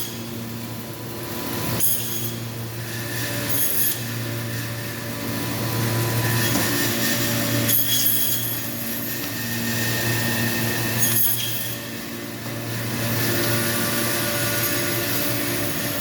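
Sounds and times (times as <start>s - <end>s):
meat bandsaw running: 0.0s - 16.0s.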